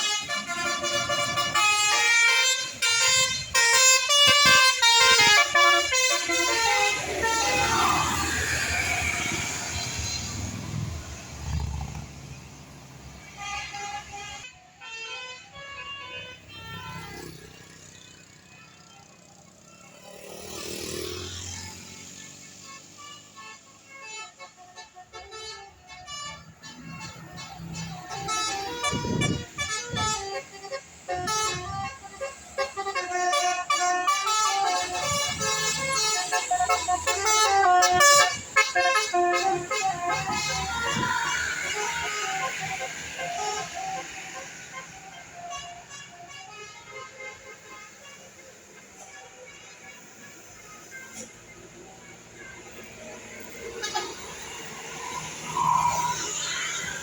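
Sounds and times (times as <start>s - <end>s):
multi-tone bus horn melody: 0.0s - 11.2s, 13.2s - 57.0s
bus engine rumbling: 0.0s - 14.4s, 21.4s - 57.0s.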